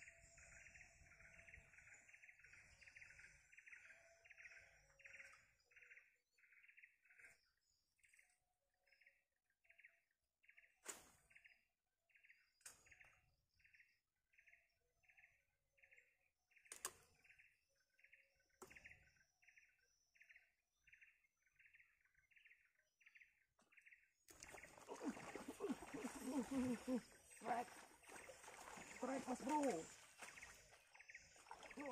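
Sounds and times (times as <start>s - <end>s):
faint repeated bird call: 0.0s - 31.9s.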